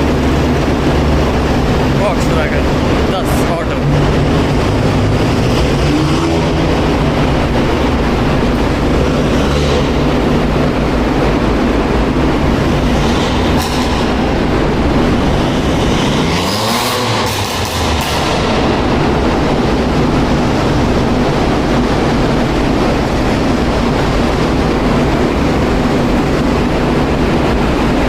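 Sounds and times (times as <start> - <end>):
car engine revving: 0.0 - 28.0
car engines droning: 0.0 - 28.0.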